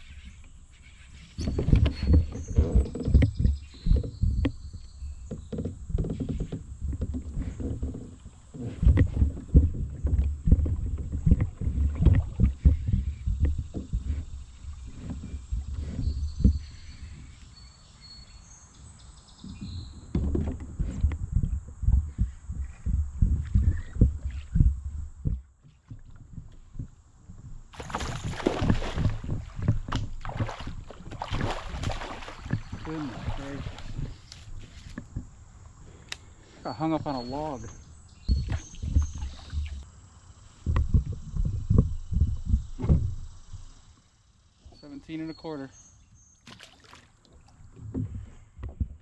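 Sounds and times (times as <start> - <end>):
water splashing and churning: 0.0 - 17.6, 19.4 - 39.9, 46.4 - 48.3
low thumps and knocks on kayak: 1.4 - 17.5, 19.4 - 35.7, 36.8 - 39.9, 40.6 - 43.9, 46.1 - 49.0.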